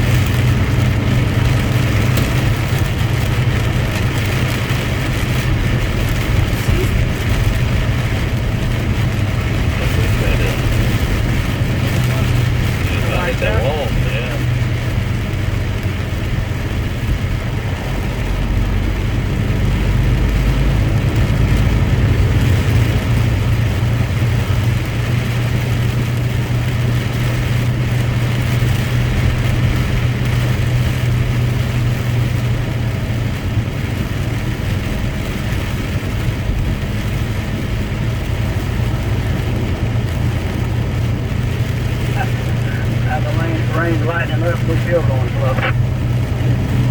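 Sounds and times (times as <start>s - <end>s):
road noise: 0.0s - 46.9s
truck engine humming: 0.0s - 46.9s.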